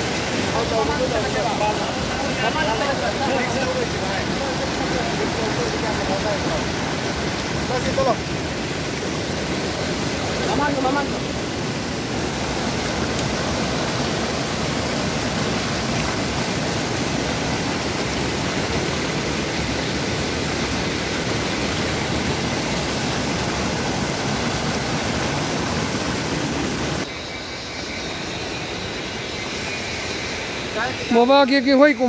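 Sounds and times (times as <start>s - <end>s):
stream rushing over boulders: 0.0s - 27.1s.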